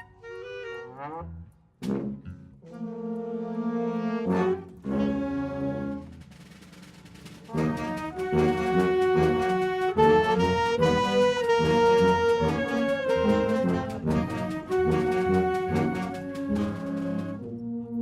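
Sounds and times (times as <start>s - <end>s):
orchestral brass chords: 0.0s - 6.2s, 7.5s - 18.0s.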